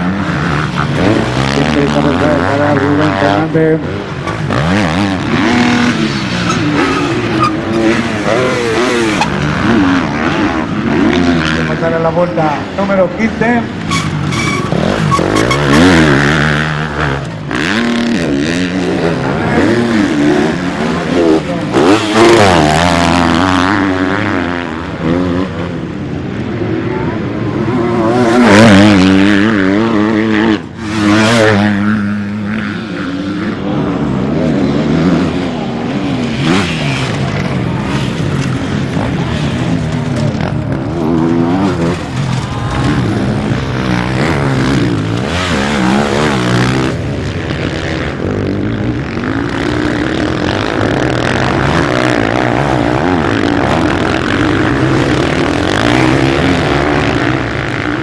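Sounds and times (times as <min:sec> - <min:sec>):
motocross bikes racing past: 0:00.0 - 0:58.0.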